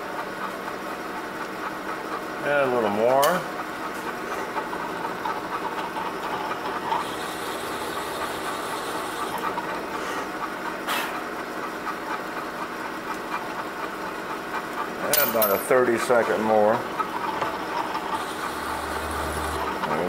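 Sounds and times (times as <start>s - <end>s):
drill press running: 0.0s - 20.0s.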